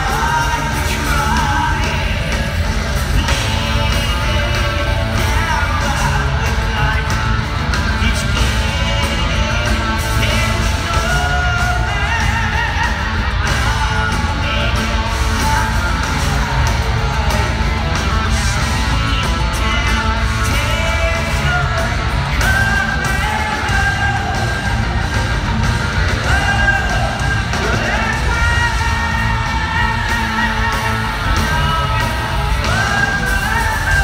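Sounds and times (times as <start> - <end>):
live metal band playing: 0.0 - 34.0
man singing lead vocal: 0.0 - 34.0.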